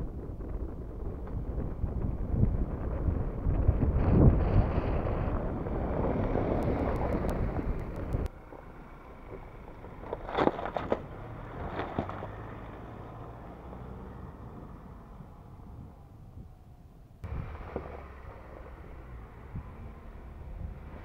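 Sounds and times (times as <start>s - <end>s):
low engine hum: 0.0s - 21.0s
pickup truck engine and tyres: 0.0s - 21.0s.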